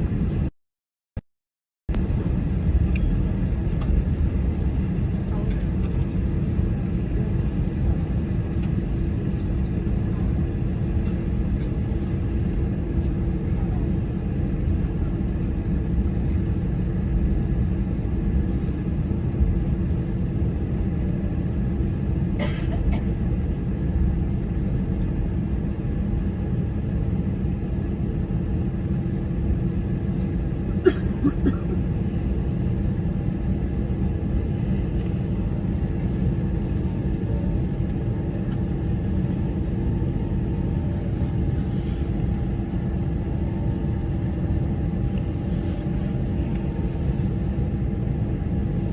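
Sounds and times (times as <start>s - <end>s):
aircraft cabin rumble and hum: 0.0s - 0.5s, 1.9s - 48.9s.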